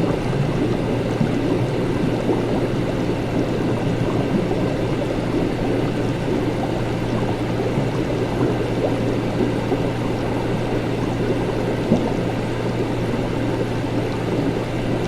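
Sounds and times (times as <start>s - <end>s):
liquid bubbling and gurgling: 0.0s - 15.0s
low equipment hum: 0.0s - 15.0s.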